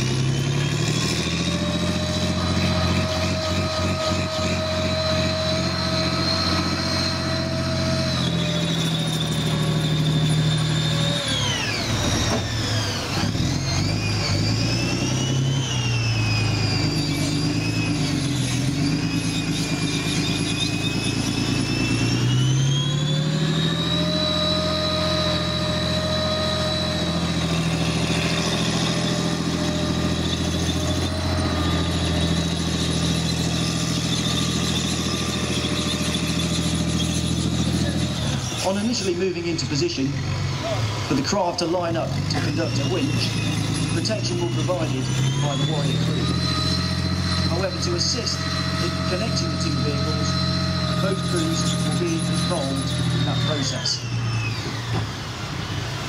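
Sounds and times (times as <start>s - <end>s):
diesel engine: 0.0s - 56.0s
high whine: 0.0s - 56.0s.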